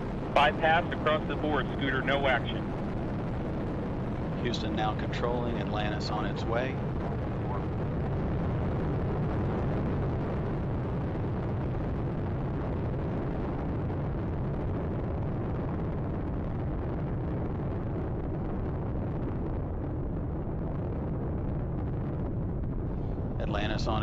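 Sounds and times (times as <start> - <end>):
rocket engines rumbling: 0.0 - 24.0.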